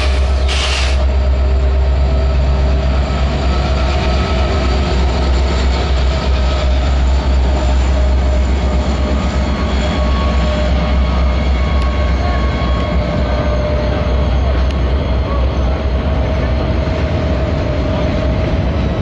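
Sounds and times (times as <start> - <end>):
diesel locomotives passing: 0.0 - 19.0.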